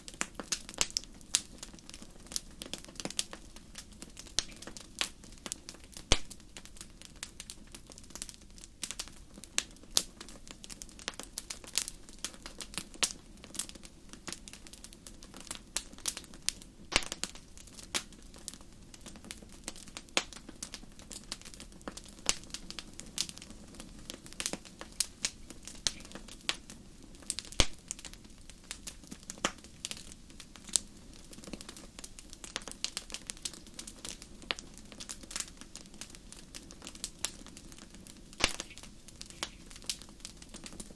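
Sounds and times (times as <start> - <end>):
faint low hiss of burning: 0.0 - 40.9
wood fire crackling: 0.0 - 40.9.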